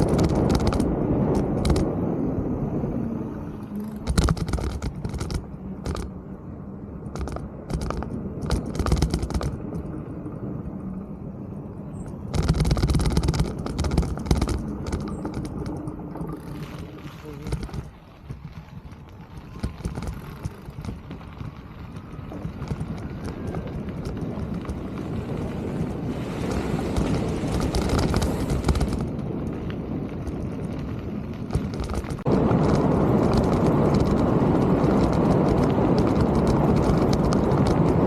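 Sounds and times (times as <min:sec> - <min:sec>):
bike knocking and rattling: 0:00.0 - 0:02.0, 0:03.6 - 0:06.3, 0:07.0 - 0:38.0
bike tyres rolling on trail: 0:00.0 - 0:38.0.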